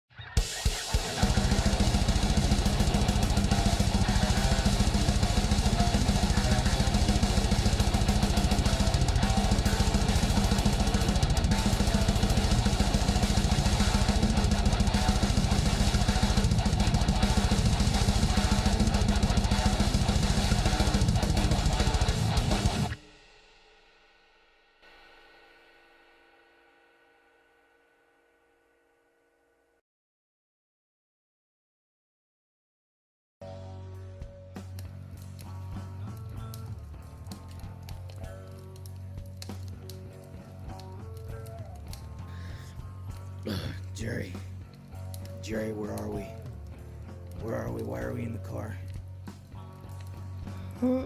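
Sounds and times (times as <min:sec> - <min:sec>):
music with drum kit: 0:00.3 - 0:26.0, 0:33.6 - 0:51.0.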